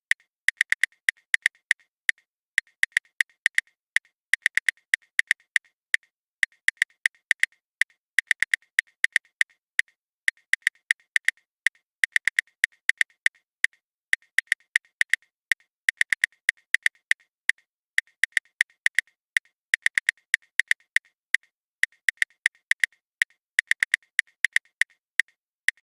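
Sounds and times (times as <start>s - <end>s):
smartphone keyboard clicks: 0.1s - 25.9s.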